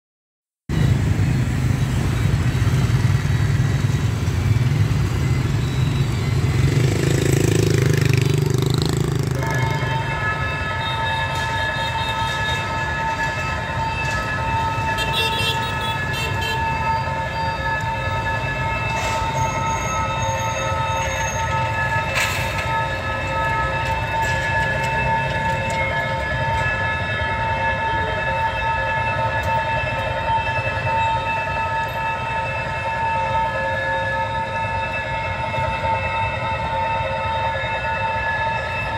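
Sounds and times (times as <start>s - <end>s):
diesel locomotive engine rumble: 0.7s - 38.9s
train cars rolling: 0.8s - 38.9s.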